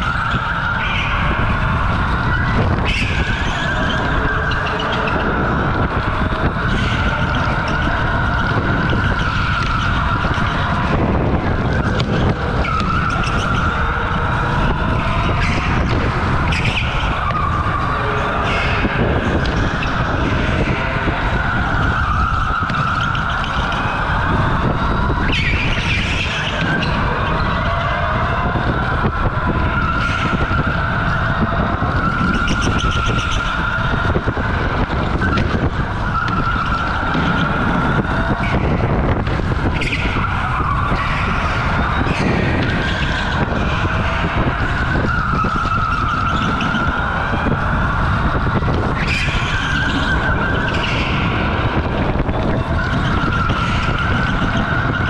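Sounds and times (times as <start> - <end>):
steady rumble: 0.0 - 55.0
tyres squealing: 0.0 - 55.0.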